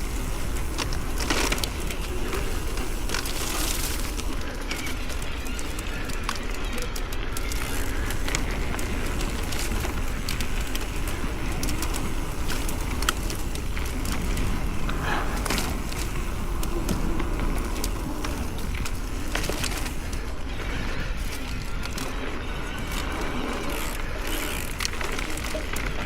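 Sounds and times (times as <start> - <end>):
bike clicks and rattles: 0.0 - 26.0
bike tyres on dirt: 0.0 - 26.0
wind rumble on microphone: 0.0 - 26.0.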